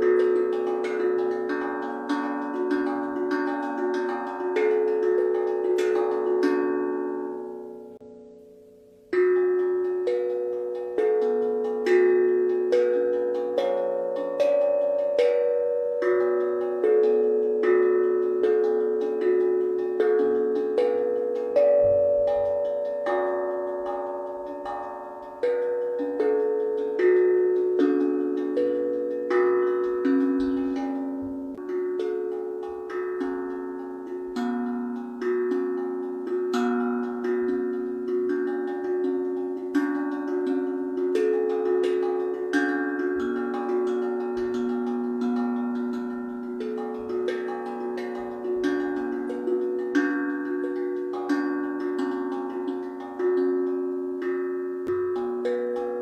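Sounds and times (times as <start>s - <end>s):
pitched percussion melody: 0.0s - 8.2s, 9.1s - 56.0s.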